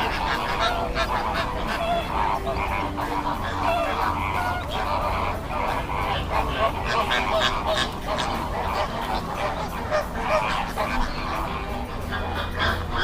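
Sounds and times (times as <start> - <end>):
flamingos honking: 0.0 - 13.0.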